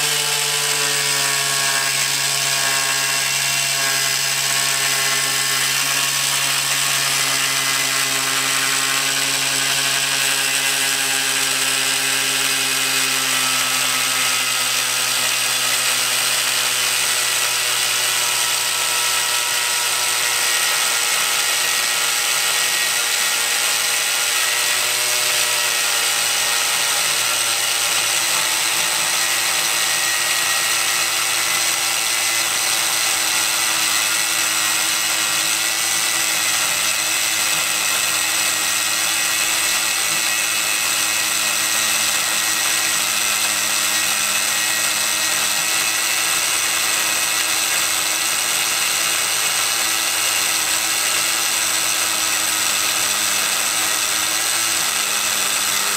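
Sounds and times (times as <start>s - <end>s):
angle grinder cutting steel: 0.0s - 55.9s.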